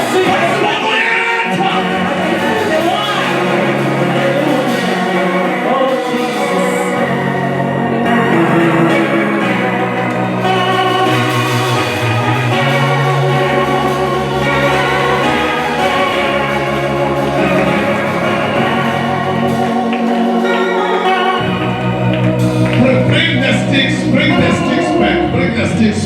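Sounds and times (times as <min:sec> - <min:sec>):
organ-style keyboard chords: 0:00.0 - 0:26.0.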